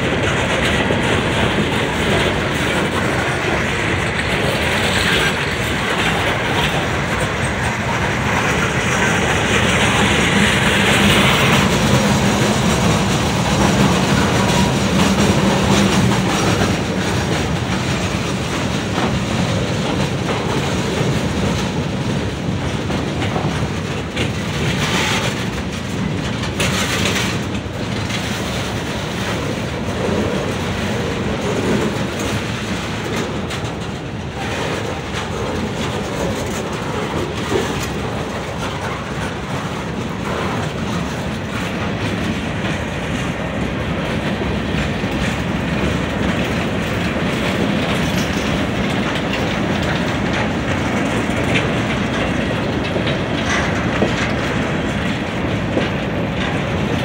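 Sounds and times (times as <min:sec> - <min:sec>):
freight train wheels rolling: 0:00.0 - 0:57.0.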